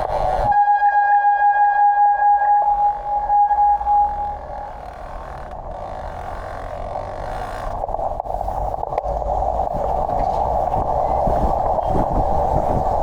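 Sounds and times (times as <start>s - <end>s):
wind and tyre noise on wet road: 0.0s - 0.6s, 3.0s - 13.0s.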